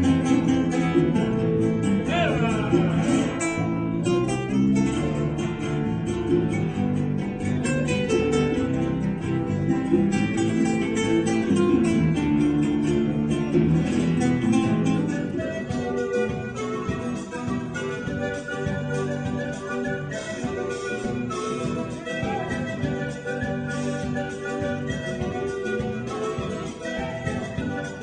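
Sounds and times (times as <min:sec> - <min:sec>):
classical guitar playing: 0:00.0 - 0:28.0.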